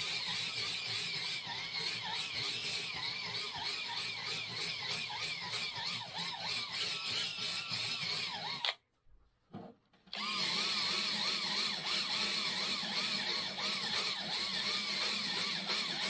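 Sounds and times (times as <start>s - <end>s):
cordless drill whining: 0.0s - 8.8s, 10.1s - 16.0s.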